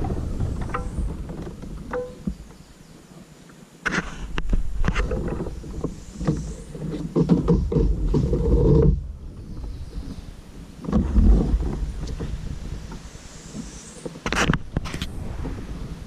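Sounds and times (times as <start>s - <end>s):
low wind rumble: 0.0s - 3.2s, 4.2s - 16.0s.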